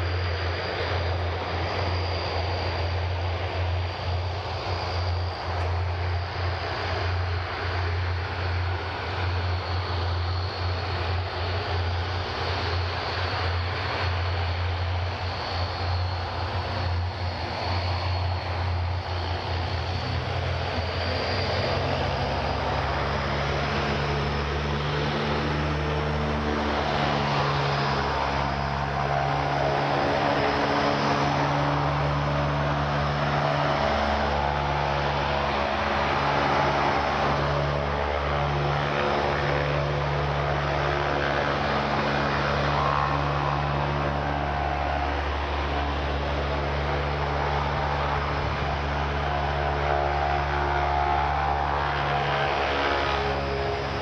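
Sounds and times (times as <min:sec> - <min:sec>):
higher engine hum: 0:00.0 - 0:54.0
turboprop propeller drone: 0:00.0 - 0:54.0.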